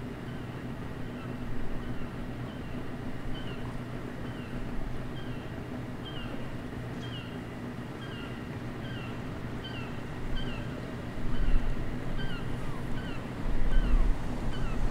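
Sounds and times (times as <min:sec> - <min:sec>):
gulls calling: 0:00.1 - 0:14.9.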